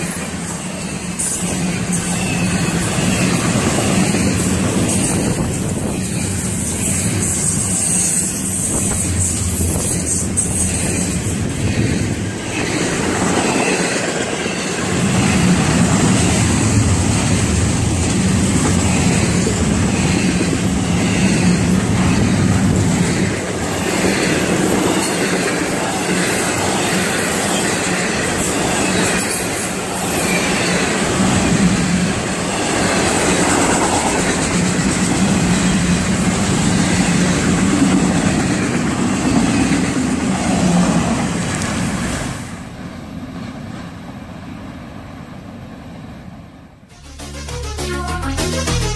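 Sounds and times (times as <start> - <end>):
freight train wheels rumbling: 0.0 - 46.4.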